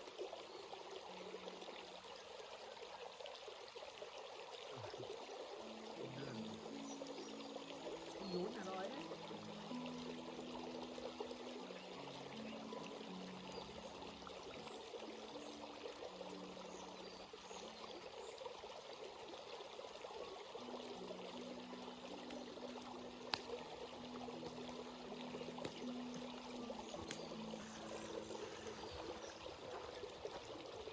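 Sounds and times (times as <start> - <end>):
stream babbling over rocks: 0.0 - 30.9.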